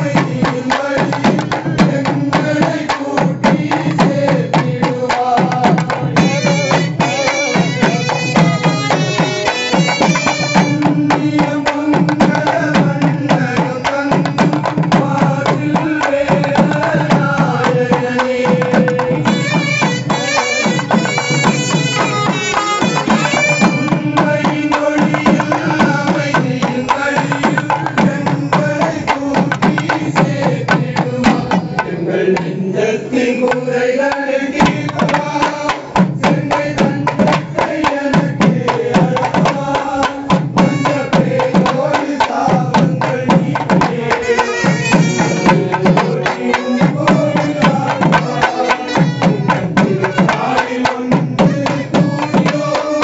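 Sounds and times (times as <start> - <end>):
barrel drums beating: 0.0 - 31.8, 34.6 - 53.0.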